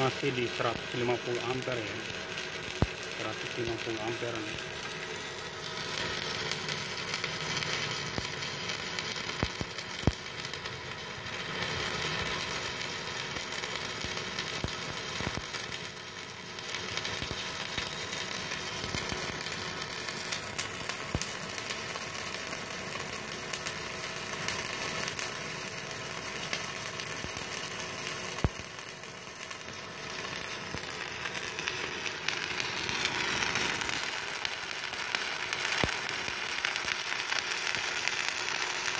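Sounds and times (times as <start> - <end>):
sharp welding pops: 0.0 - 38.9
welding arc crackling: 0.0 - 38.9.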